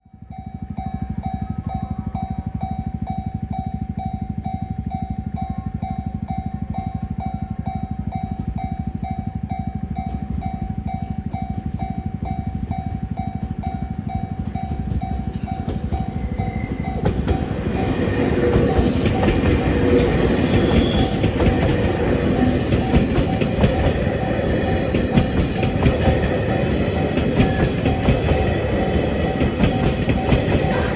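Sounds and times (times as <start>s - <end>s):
train low rumble: 0.0s - 30.9s
electronic warning tone pulsing: 0.3s - 30.9s
wheels clattering on rails: 0.6s - 30.9s.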